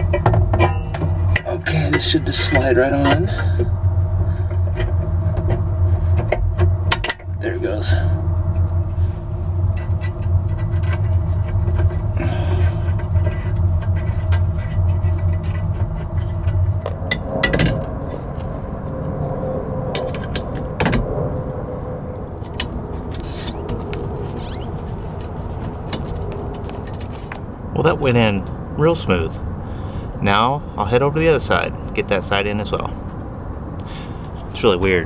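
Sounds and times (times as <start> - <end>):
low machine hum: 0.0 - 35.0
quiet steady drone: 0.0 - 35.0.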